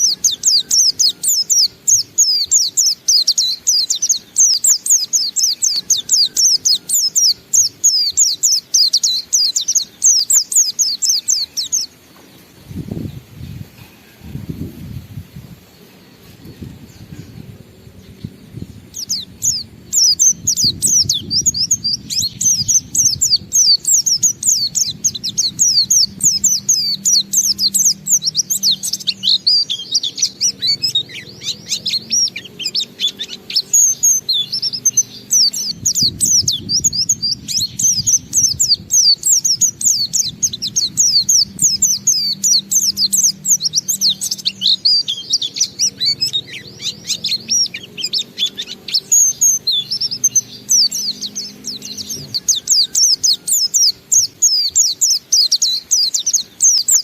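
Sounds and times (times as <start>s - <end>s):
bird singing rapid high chirps: 0.0s - 13.7s, 14.3s - 57.0s.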